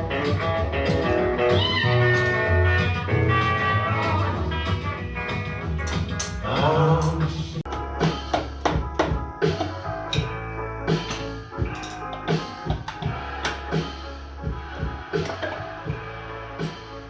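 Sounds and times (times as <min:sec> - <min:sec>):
music with drums and guitar: 0:00.0 - 0:17.0.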